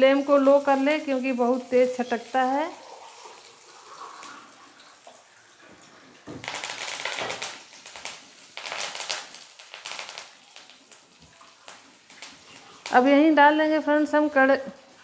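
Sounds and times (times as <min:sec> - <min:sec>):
leaves crackling in hot oil: 0:00.0 - 0:05.4, 0:06.2 - 0:15.0
faint sizzle: 0:00.0 - 0:15.0.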